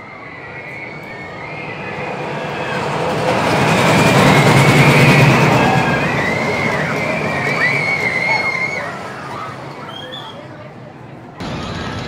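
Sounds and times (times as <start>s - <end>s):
roller coaster rumbling clatter: 0.5s - 12.0s.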